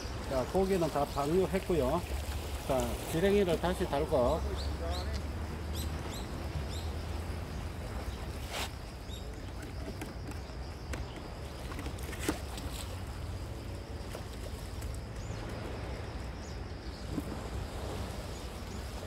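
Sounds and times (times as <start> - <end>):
wind and sea rumble: 0.0 - 19.0.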